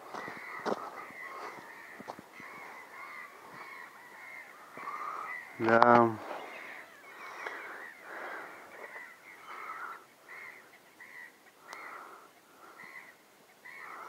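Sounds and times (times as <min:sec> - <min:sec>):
gulls mewing calls: 0:00.0 - 0:14.0.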